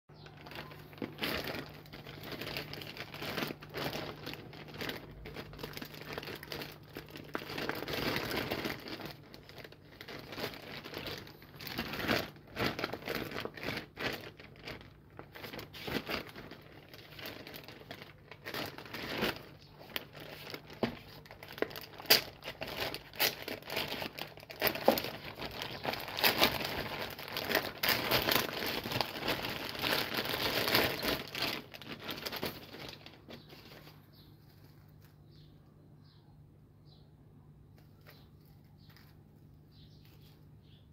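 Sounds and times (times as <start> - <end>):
plastic bag crinkling and tearing: 0.1 - 35.5.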